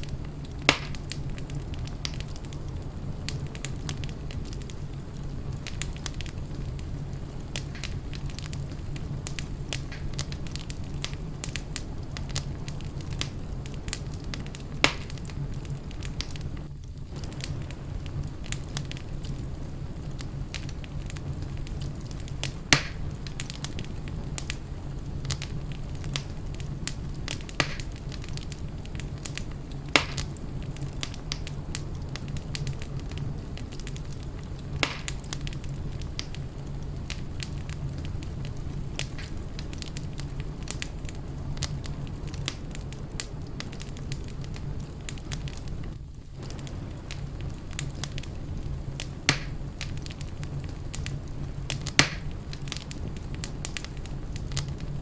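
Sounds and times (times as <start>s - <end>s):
sharp fire pops: 0.0s - 55.0s
wood fire crackling: 0.0s - 55.0s.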